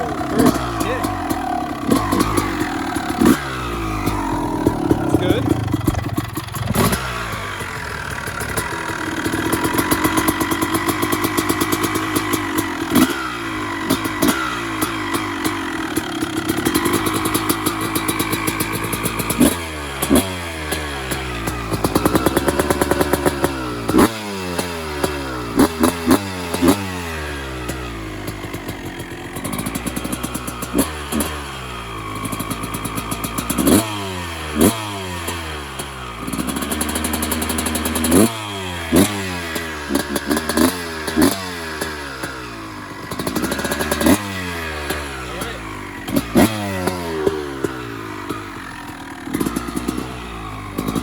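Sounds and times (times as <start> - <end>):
two-stroke motorcycle engine revving: 0.0 - 51.0.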